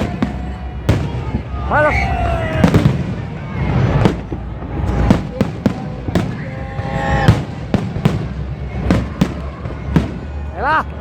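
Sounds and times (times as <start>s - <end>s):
fireworks bangs: 0.0s - 10.5s.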